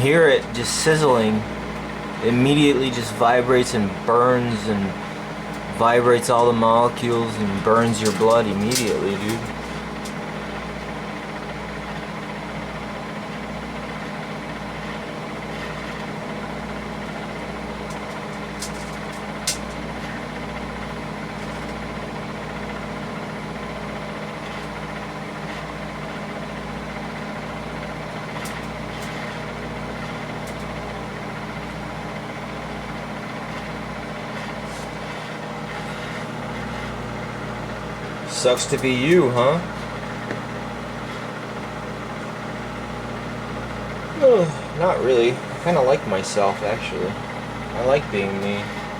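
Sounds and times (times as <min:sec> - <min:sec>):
low mechanical hum with throb: 0:00.0 - 0:48.9.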